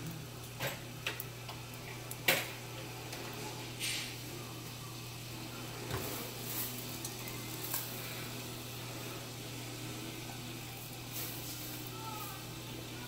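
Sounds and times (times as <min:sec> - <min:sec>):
pots hissing on stovetop: 0:00.0 - 0:13.0.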